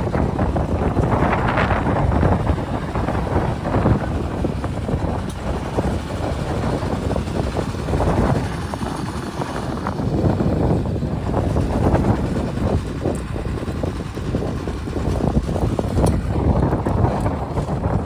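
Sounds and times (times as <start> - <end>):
diesel engine rumble: 0.0 - 18.0.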